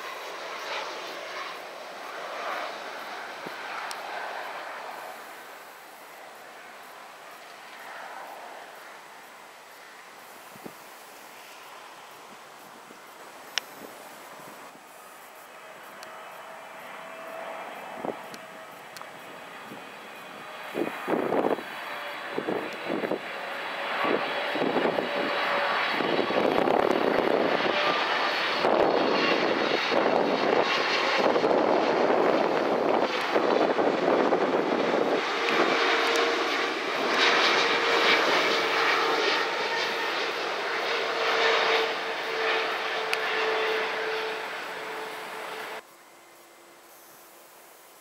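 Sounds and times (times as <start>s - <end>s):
jet engines rushing: 0.0s - 47.8s.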